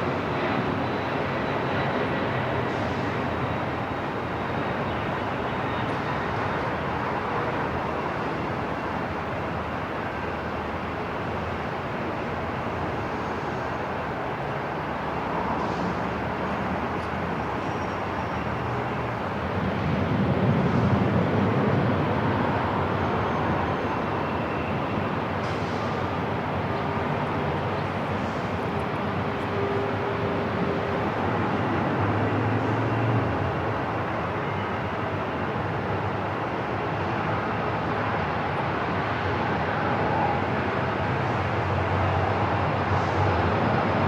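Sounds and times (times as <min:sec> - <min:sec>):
rumbling airport ambience: 0:00.0 - 0:44.0.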